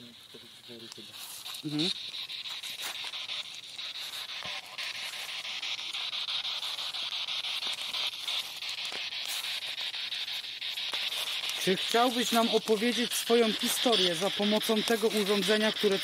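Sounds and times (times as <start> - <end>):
radio static hiss: 0.0 - 16.0
rapid radio clicks: 0.5 - 16.0.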